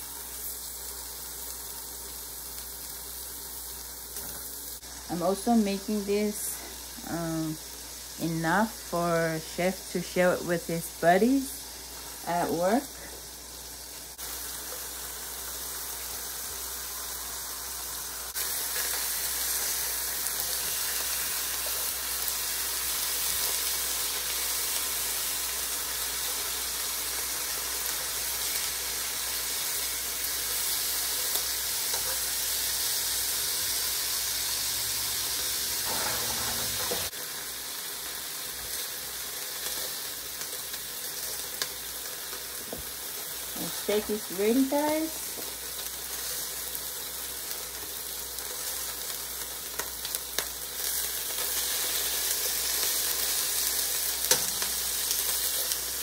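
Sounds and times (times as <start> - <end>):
steak sizzling in a frying pan: 0.0 - 56.0.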